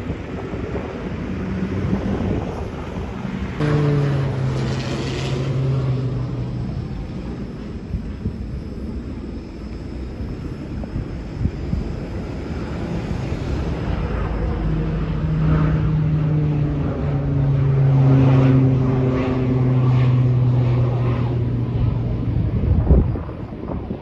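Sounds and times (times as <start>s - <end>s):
wind on microphone: 0.0s - 17.1s, 18.2s - 24.0s
aircraft engine drone: 0.0s - 24.0s.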